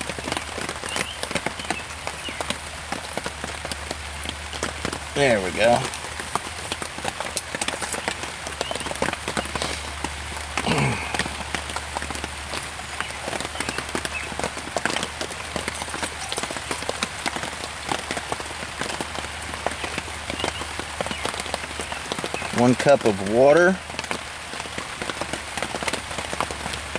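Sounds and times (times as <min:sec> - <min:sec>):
rain pattering on a tarp: 0:00.0 - 0:26.9.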